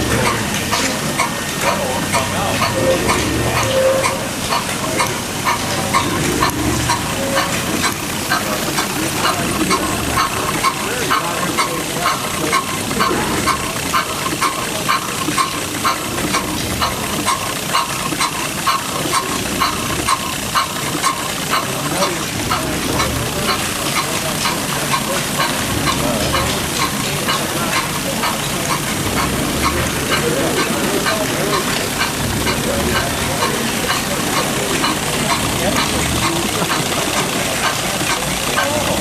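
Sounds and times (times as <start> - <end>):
small gas engine running: 0.0 - 39.0.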